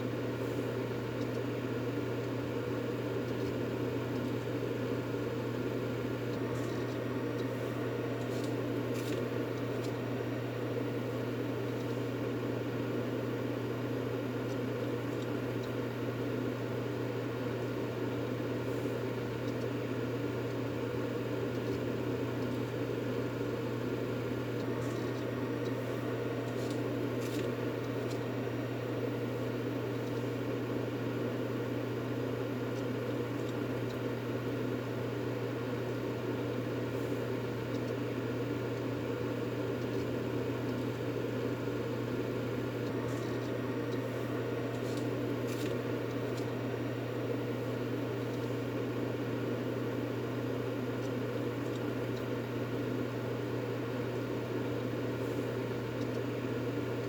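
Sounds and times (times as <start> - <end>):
steady white noise: 0.0 - 57.0.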